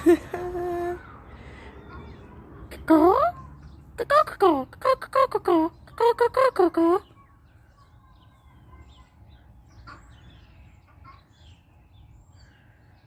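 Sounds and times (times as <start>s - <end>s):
faint bird chirps: 0.6s - 4.0s, 5.7s - 13.0s.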